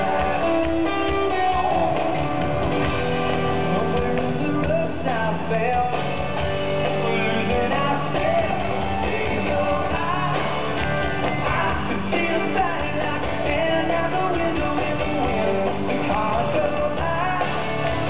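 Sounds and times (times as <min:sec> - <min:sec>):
bending lead guitar melody: 0:00.0 - 0:18.0
live rock band through pa: 0:00.0 - 0:18.0.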